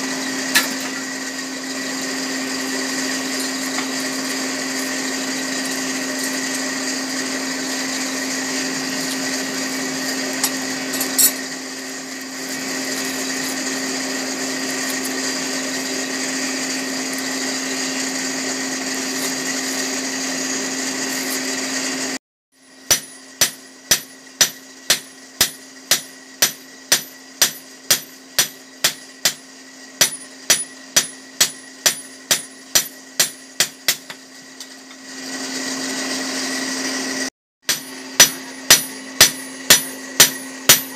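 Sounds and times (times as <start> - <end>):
forge blower whirring: 0.0 - 40.9.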